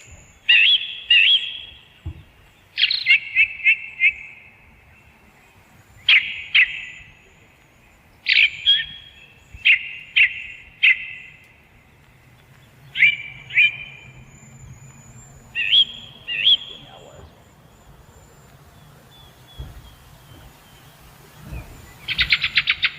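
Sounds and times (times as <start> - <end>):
bird calling sharp notes: 0.0 - 22.9
faint high twittering: 0.0 - 22.9.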